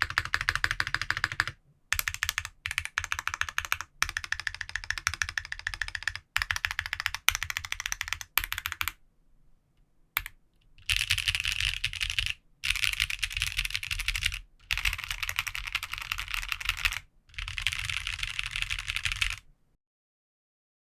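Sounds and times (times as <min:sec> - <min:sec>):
mechanical keyboard typing: 0:00.0 - 0:09.0, 0:10.2 - 0:19.4.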